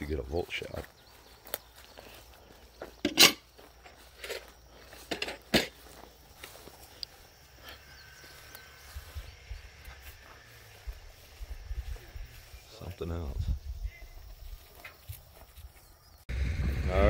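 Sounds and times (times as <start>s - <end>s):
footsteps swishing through grass: 0.0s - 5.1s, 5.7s - 16.0s.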